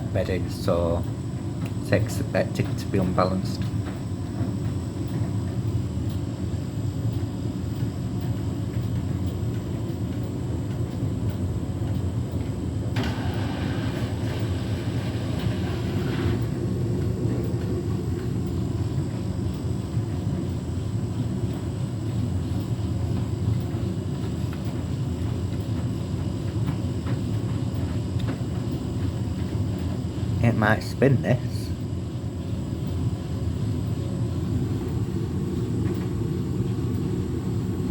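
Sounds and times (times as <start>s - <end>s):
washing machine rumbling: 0.0s - 37.9s.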